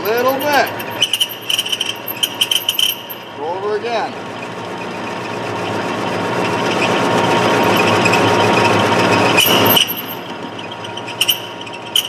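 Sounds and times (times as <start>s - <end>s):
lathe tool scraping metal: 0.0s - 3.6s, 4.4s - 12.0s
lathe running hum: 0.0s - 12.0s.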